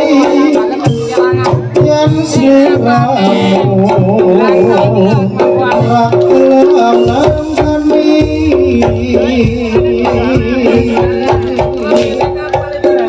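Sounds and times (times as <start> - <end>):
low drumming: 0.0 - 13.0
rattling percussion: 0.0 - 13.0.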